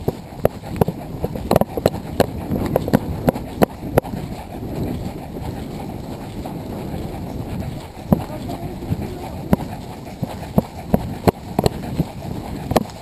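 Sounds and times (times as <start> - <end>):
running footsteps on forest floor: 0.0 - 13.0.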